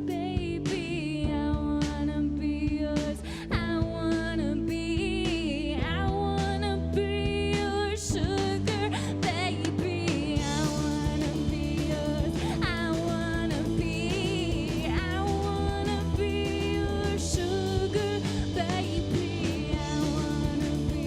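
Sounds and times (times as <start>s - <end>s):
drums: 0.0s - 21.0s
person singing: 0.0s - 21.0s
live pop-punk band playing: 3.1s - 21.0s.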